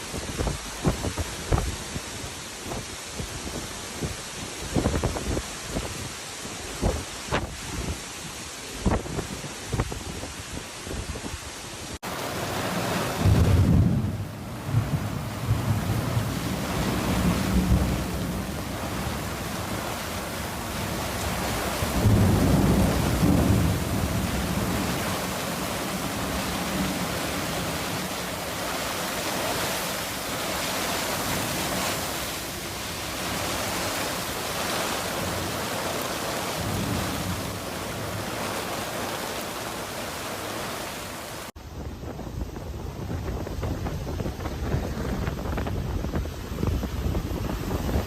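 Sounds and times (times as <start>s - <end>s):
storm wind and heavy rain: 0.0s - 48.0s
wind gusts buffeting microphone: 0.0s - 48.0s.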